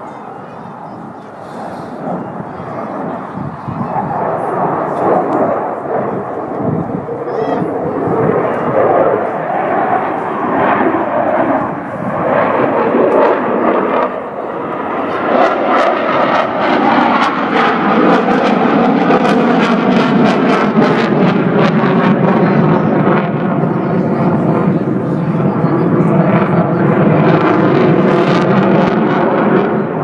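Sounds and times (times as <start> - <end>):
airplane flying past: 0.0 - 30.0.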